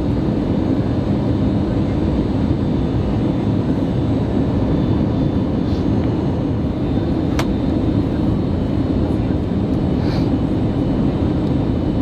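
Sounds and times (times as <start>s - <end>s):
aircraft cabin engine and airflow noise: 0.0s - 12.0s.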